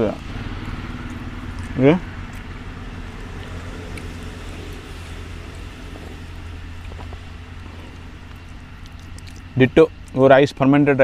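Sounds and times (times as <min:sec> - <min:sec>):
faint outdoor background noise: 0:00.0 - 0:11.0
steady low hum: 0:00.0 - 0:11.0.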